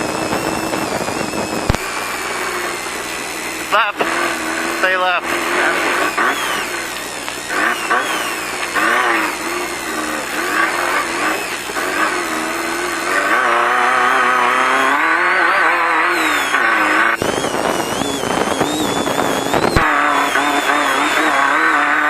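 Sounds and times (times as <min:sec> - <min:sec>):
loud rough rattling: 0:00.0 - 0:22.0
race car engine revving: 0:00.0 - 0:22.0
road and wind noise: 0:00.0 - 0:22.0.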